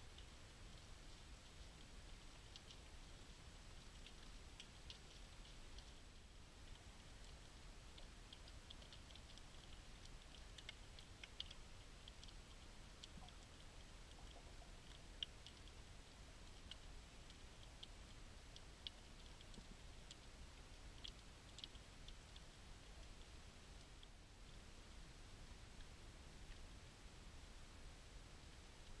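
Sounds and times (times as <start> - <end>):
reef clicks and crackles: 0.0 - 29.0.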